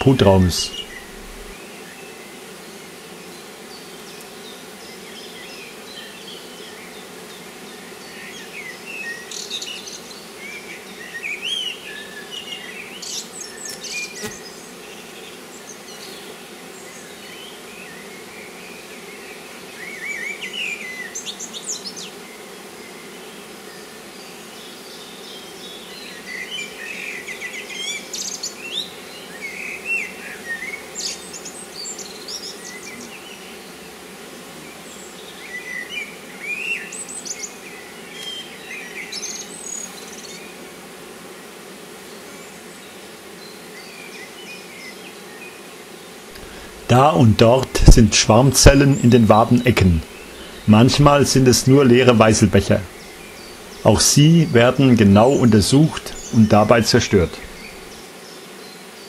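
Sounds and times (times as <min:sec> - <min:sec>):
birds singing: 0:00.0 - 0:02.3, 0:03.3 - 0:33.9, 0:34.6 - 0:40.6, 0:42.1 - 0:59.0
honeybees humming: 0:00.0 - 0:59.0.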